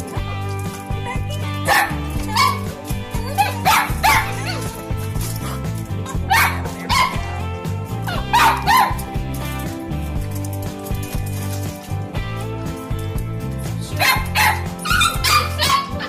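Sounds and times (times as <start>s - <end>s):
puppies yipping and barking: 0.0s - 11.9s, 14.0s - 16.0s
background music: 0.0s - 16.0s.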